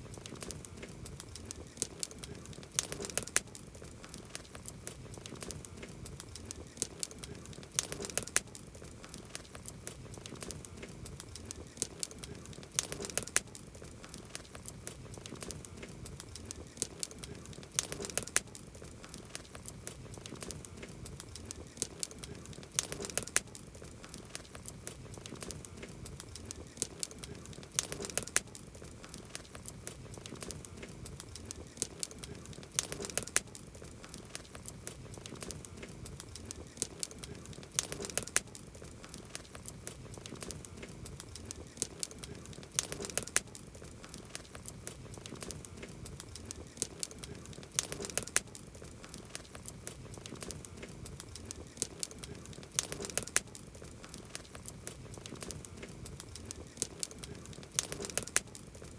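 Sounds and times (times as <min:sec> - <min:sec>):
campfire crackling: 0:00.0 - 0:58.9
loud fire pops: 0:00.0 - 0:58.9.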